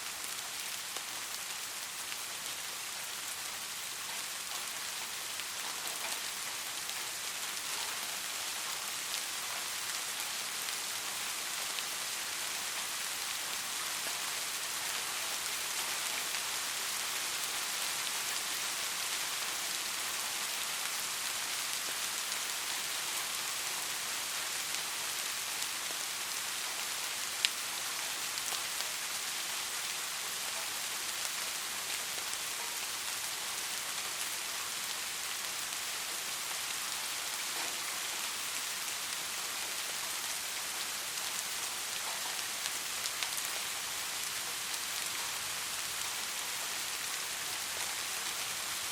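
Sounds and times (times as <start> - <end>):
soft rain hissing: 0.0 - 48.9.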